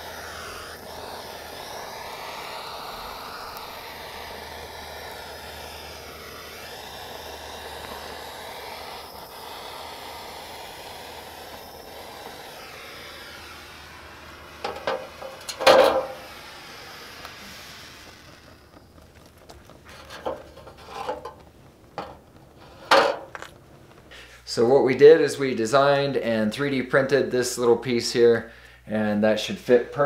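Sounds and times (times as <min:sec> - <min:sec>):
propane torch hissing: 0:00.0 - 0:30.0.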